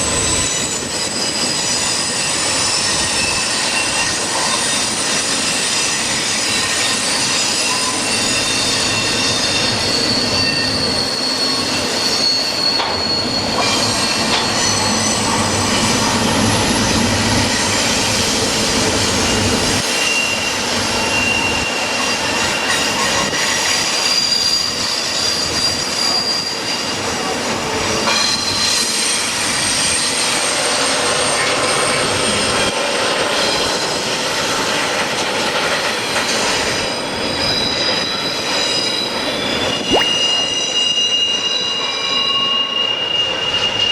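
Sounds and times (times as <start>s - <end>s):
train wheels squealing on rails: 0.0s - 43.9s.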